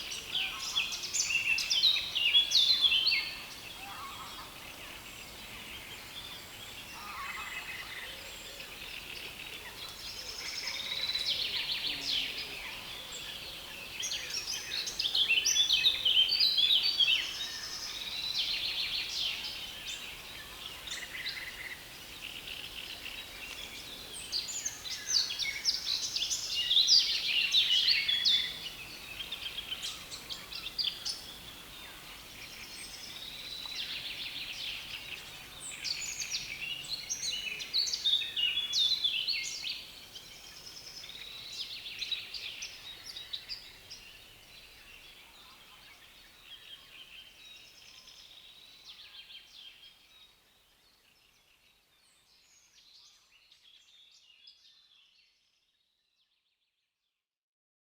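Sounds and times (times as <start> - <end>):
songbirds singing: 0.0 - 56.5.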